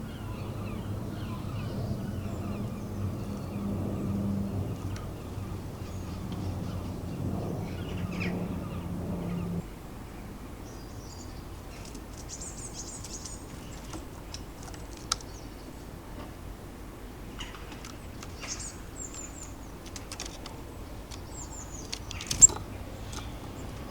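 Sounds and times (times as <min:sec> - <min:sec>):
small birds chirping: 0:00.0 - 0:09.7, 0:10.6 - 0:16.3, 0:17.2 - 0:23.9.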